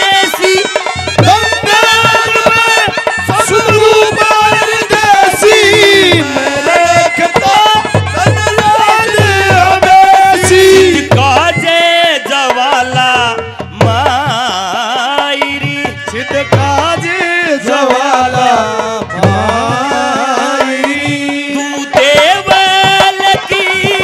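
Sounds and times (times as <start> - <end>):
drum beat: 0.0 - 24.0
person singing: 0.0 - 24.0.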